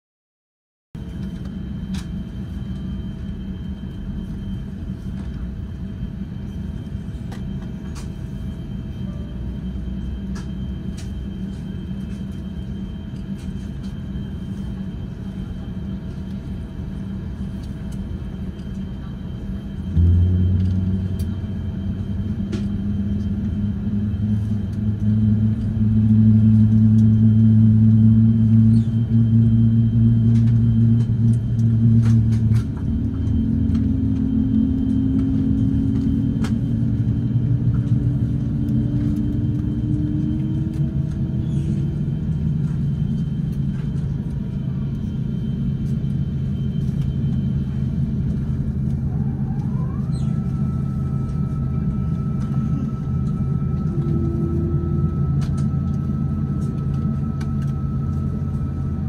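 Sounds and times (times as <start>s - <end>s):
airliner cabin drone: 1.0s - 59.0s
low hum rising in pitch: 1.0s - 59.0s.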